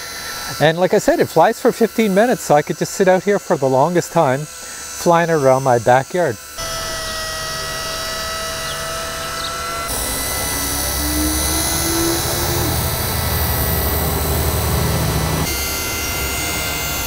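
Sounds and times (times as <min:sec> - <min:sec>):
toy helicopter rotor whine: 0:00.0 - 0:17.0.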